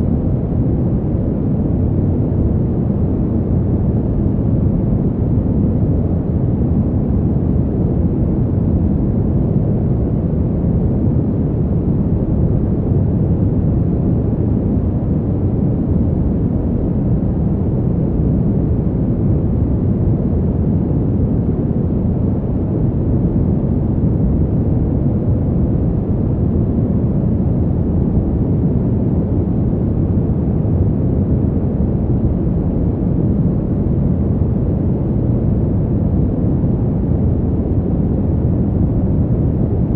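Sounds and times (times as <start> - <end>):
fan heater rush of air: 0.0 - 39.9.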